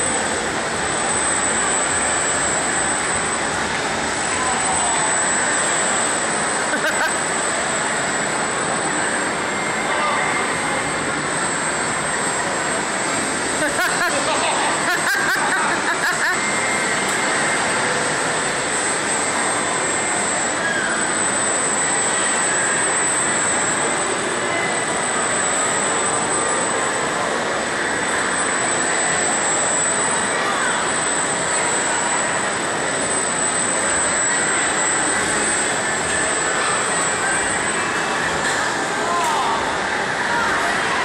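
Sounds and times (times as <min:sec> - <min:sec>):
thin high whine: 0:00.0 - 0:41.0.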